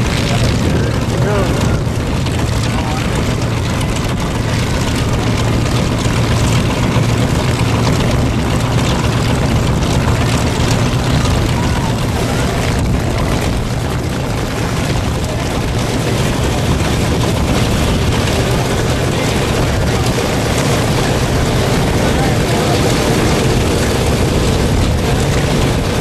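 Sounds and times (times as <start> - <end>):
propeller aircraft engines idling: 0.0 - 26.0.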